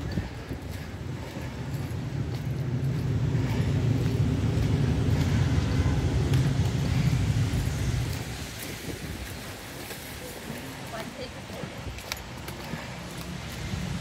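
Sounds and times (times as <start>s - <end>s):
traffic rumble on wet street: 0.0s - 14.0s.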